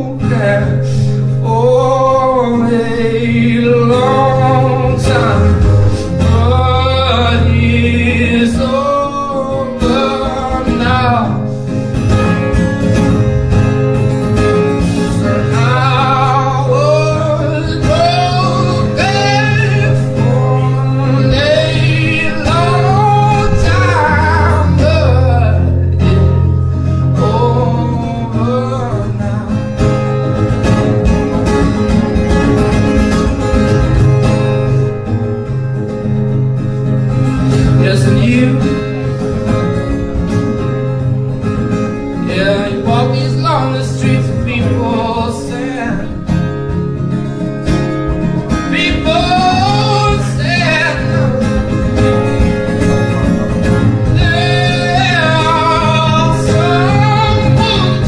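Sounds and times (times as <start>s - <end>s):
song with guitar and singing: 0.0s - 58.0s.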